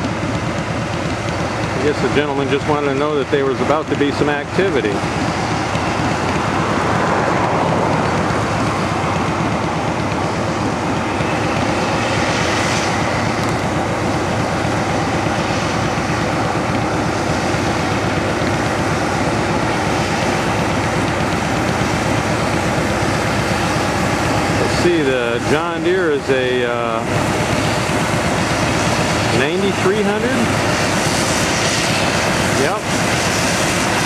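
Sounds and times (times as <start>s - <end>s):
combine and tractor engines: 0.0s - 34.0s.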